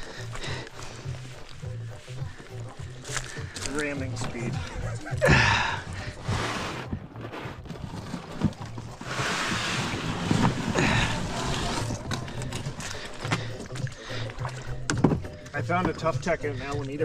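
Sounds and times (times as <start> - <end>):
paddles splashing water: 0.0 - 17.0.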